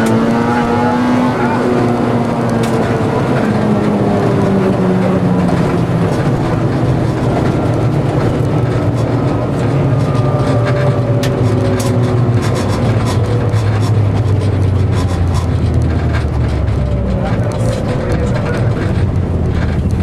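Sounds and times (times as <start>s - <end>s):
car engine revving: 0.0s - 20.0s
road and tyre noise: 0.0s - 20.0s.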